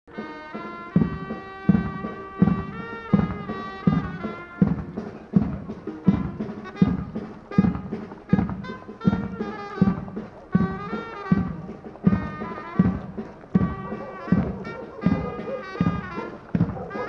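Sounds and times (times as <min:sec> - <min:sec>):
brass band playing a march: 0:00.1 - 0:17.0.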